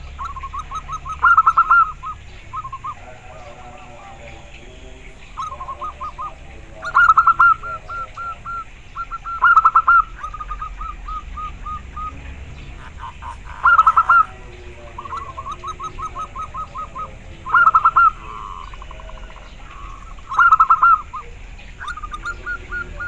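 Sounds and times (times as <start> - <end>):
dove cooing song: 0.0 - 23.0.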